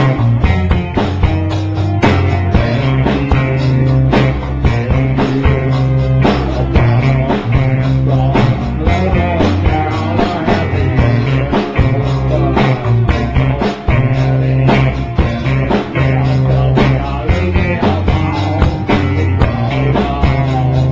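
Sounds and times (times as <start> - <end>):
drum kit beat: 0.0 - 20.9
guitar: 0.0 - 20.9
rock band playing live: 0.0 - 20.9.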